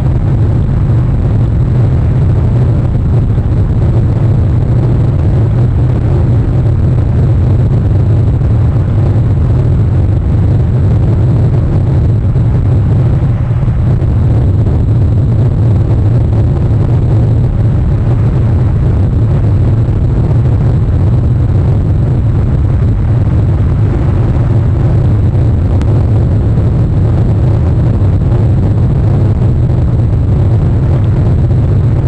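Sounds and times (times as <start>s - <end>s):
rain and wind rumble: 0.0s - 32.0s.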